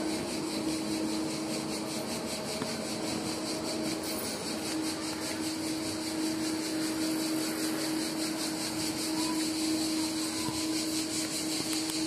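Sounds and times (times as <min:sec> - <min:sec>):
insects chirring: 0:00.0 - 0:12.0
steady hum: 0:00.0 - 0:12.0.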